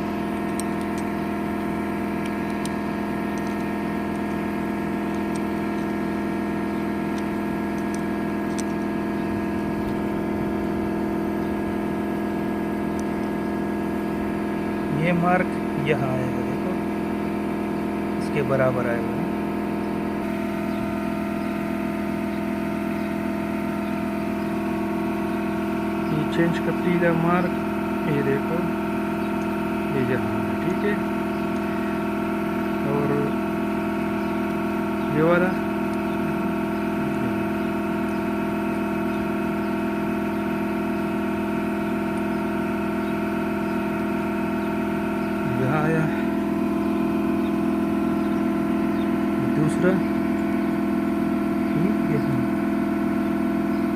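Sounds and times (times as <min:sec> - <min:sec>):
engine idling: 0:00.0 - 0:53.9
machine droning: 0:00.0 - 0:53.9.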